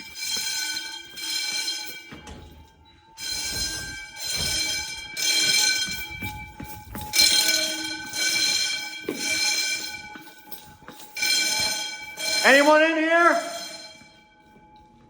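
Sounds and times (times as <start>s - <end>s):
fire alarm bells ringing: 0.0s - 15.0s.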